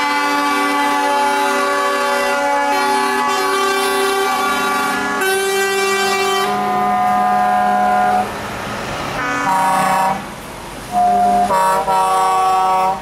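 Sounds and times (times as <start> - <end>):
truck air horns blasting: 0.0 - 8.4, 9.2 - 10.3, 10.9 - 13.0.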